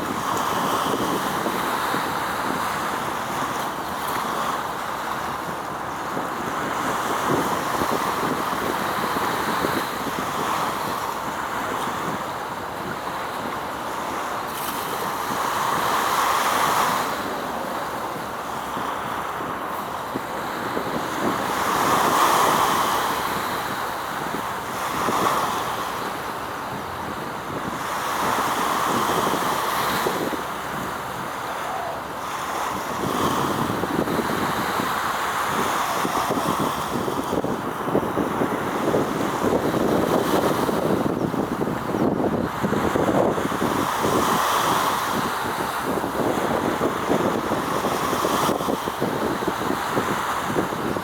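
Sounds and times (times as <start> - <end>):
waves washing on shore: 0.0 - 51.0
wind: 0.0 - 51.0.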